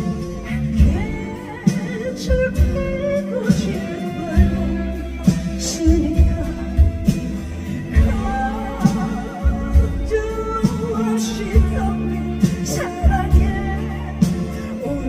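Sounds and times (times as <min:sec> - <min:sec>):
live band playing pop ballad: 0:00.0 - 0:15.0
woman singing with vibrato: 0:00.0 - 0:15.0.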